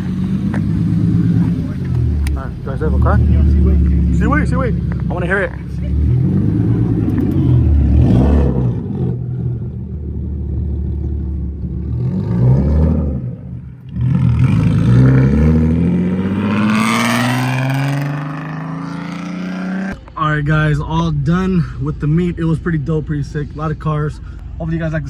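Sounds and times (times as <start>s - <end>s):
car engine revving: 0.0s - 25.0s
car pulling away: 0.0s - 25.0s.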